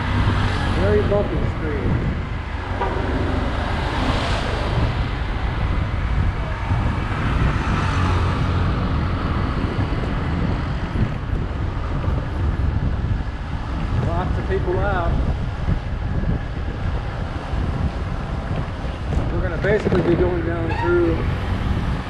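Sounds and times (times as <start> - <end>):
tyres on bumpy street: 0.0 - 22.0
wind rushing over microphone: 0.0 - 22.0.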